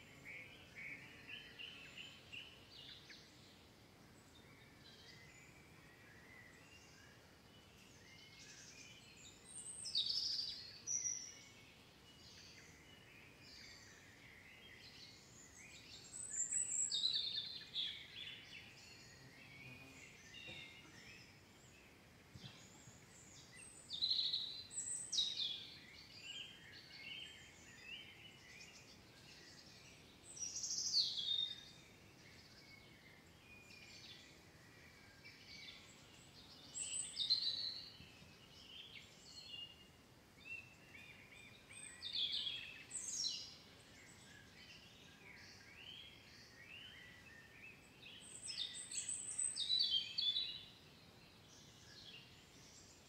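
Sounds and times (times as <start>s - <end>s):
faint steady hiss: 0.0s - 53.0s
songbirds chirping and trilling: 0.0s - 53.0s.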